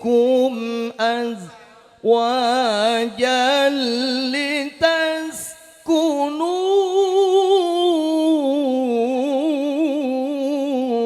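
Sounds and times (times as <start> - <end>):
man chanting melismatic recitation: 0.0 - 11.0.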